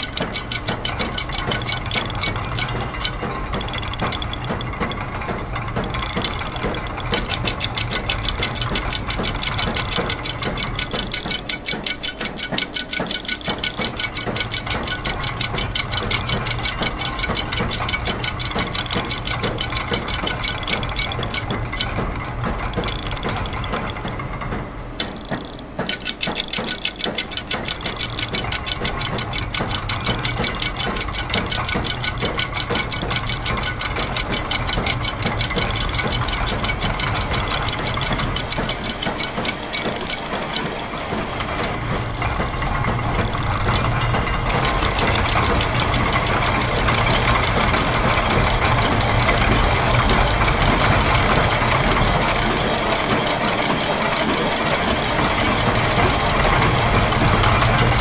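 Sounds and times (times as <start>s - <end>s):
fast clicking of gears and ratchets: 0.0s - 58.0s
low mechanical hum: 0.0s - 58.0s.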